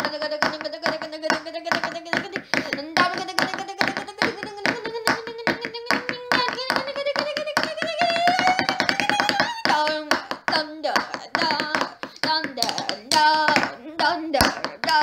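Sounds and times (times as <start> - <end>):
hand claps: 0.0 - 15.0.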